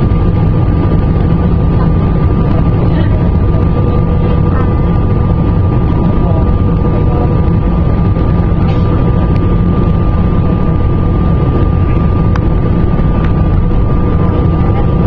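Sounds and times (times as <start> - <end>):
engine and airflow rumble: 0.0 - 15.0
thin steady whine: 0.0 - 15.0.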